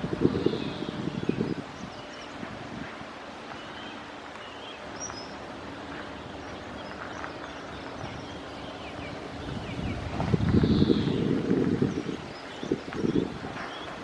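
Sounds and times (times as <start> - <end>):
ship diesel engine drone: 0.0 - 14.0
wind buffeting microphone: 0.0 - 14.0
small birds chirping: 0.1 - 14.0.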